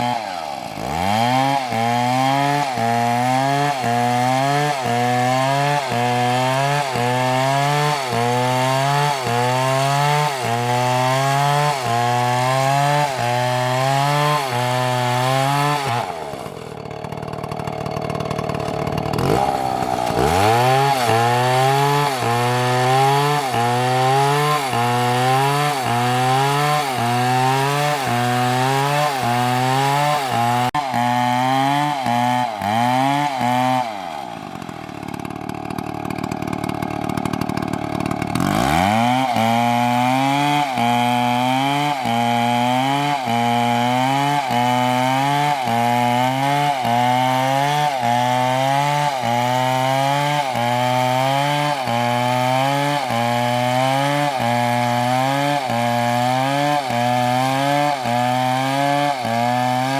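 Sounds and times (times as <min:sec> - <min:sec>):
chainsaw cutting: 0:00.0 - 0:59.9.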